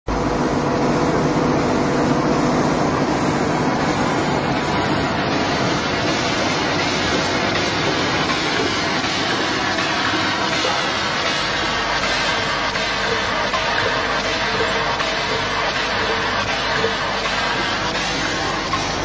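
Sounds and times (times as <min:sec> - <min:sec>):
faint machine hum: 0:00.1 - 0:19.0
machine running steadily: 0:00.1 - 0:19.0.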